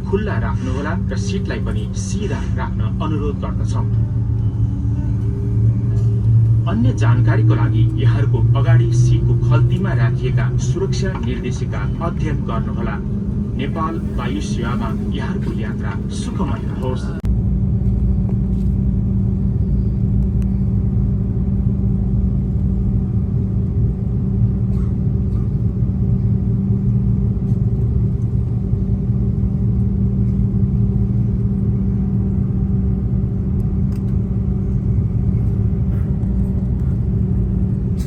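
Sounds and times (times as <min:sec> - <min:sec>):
aircraft cabin engine drone: 0:00.0 - 0:38.0.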